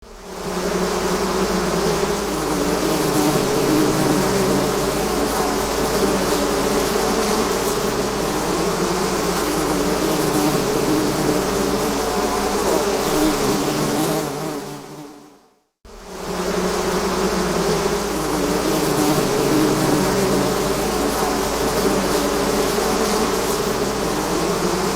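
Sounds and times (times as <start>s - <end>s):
swarm of bees buzzing: 0.0s - 24.9s.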